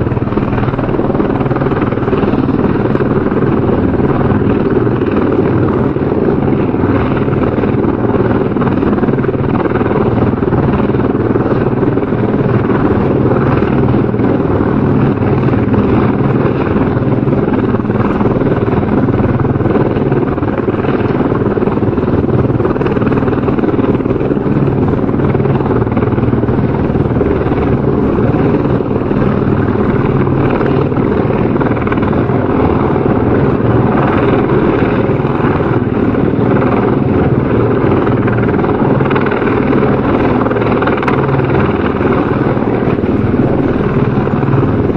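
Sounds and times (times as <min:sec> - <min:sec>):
helicopter rotor drone: 0:00.0 - 0:44.9.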